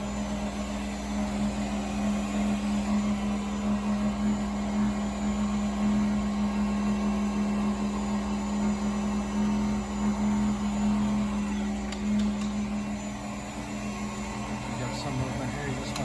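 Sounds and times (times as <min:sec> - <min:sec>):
milling machine humming: 0:00.0 - 0:16.0.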